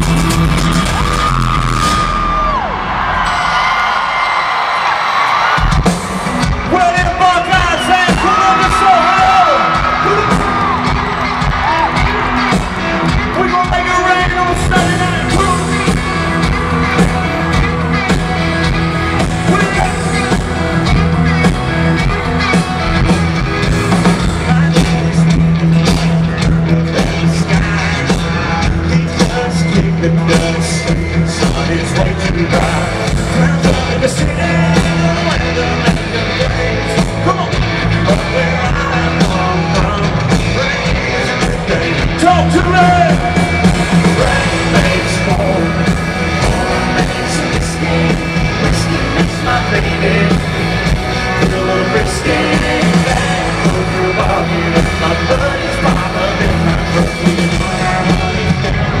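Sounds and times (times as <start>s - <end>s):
country band playing live: 0.0s - 59.0s
man singing: 6.7s - 11.0s, 11.6s - 18.2s, 19.1s - 21.4s, 24.2s - 59.0s.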